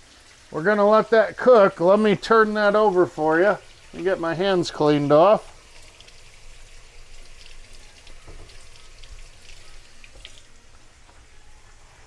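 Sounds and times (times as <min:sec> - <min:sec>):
food sizzling in deep oil: 0:00.0 - 0:12.0.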